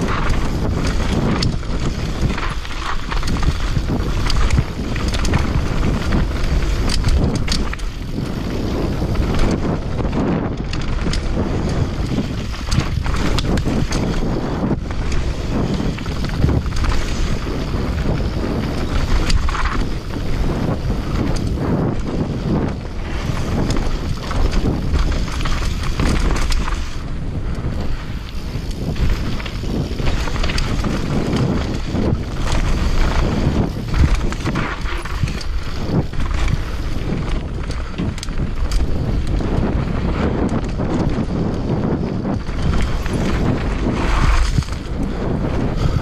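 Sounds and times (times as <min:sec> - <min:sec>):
bike clacking on rocks: 0:00.0 - 0:27.0, 0:28.3 - 0:39.4, 0:40.0 - 0:44.9
tyres rushing on dirt and rock: 0:00.0 - 0:46.0
wind buffeting microphone: 0:00.0 - 0:46.0.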